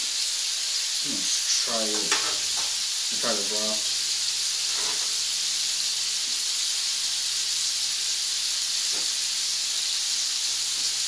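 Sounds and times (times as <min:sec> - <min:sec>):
food sizzling on electric grill: 0:00.0 - 0:11.0.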